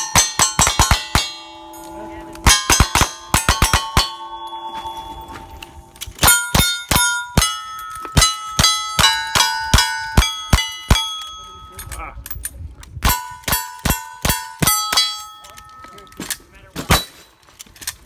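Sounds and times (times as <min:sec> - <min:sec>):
steel targets ringing: 0:00.0 - 0:11.9, 0:13.1 - 0:16.2.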